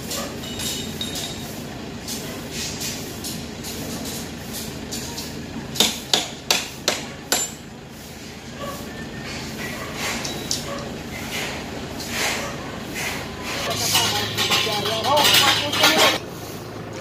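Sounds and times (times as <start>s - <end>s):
construction site noise: 0.0s - 17.0s.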